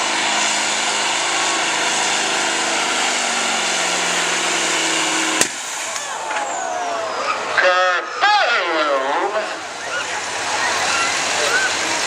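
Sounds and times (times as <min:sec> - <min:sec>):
diesel pickup engine at full throttle: 0:00.0 - 0:12.0.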